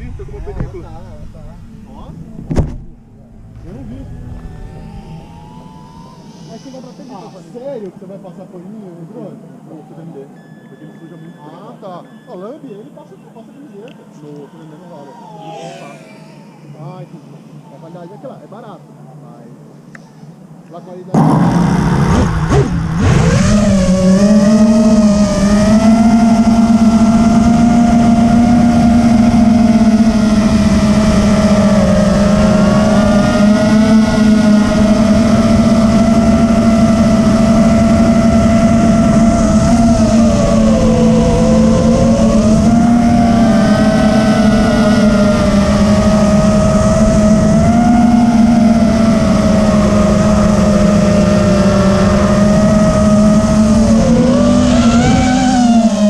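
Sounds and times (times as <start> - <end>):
drone motors whining: 0.0 - 12.6, 13.7 - 18.8, 21.2 - 56.0.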